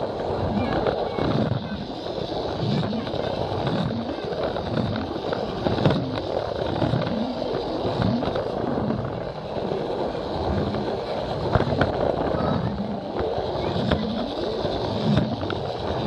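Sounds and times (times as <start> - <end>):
murmur of crowd voices: 0.0 - 16.0
toy train rolling rumble: 0.0 - 16.0.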